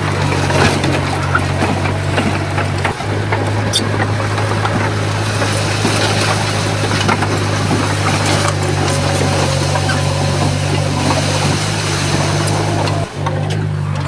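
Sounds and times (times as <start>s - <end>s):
bulldozer diesel engine drone: 0.0s - 14.0s
clicks and rattles: 0.0s - 14.0s.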